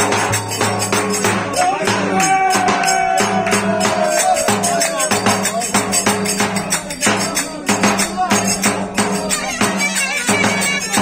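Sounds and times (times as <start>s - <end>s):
bass drum beating rhythm: 0.0s - 11.0s
jingling percussion: 0.0s - 11.0s.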